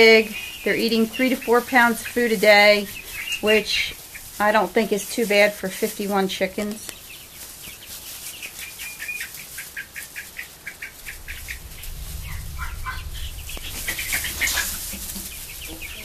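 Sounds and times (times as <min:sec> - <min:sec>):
chicks peeping: 0:00.0 - 0:16.0
scuffling and wing flapping: 0:00.0 - 0:16.0.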